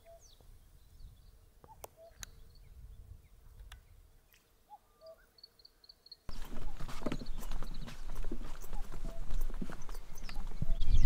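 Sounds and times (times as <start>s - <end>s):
faint birds calling: 0.0s - 11.0s.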